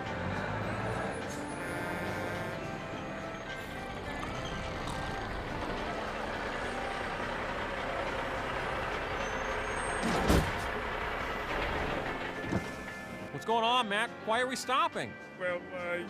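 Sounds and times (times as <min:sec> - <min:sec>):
truck engine running: 0:00.0 - 0:13.3.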